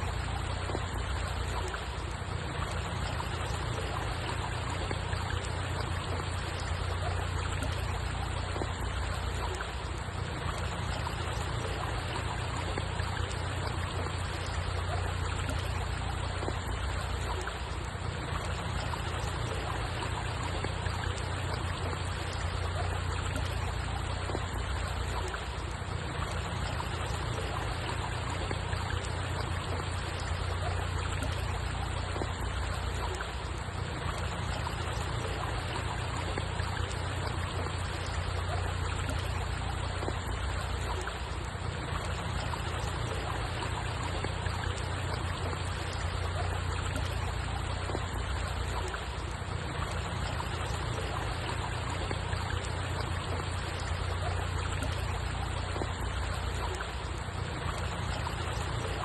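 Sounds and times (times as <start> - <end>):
running water with low rumble: 0.0 - 59.0.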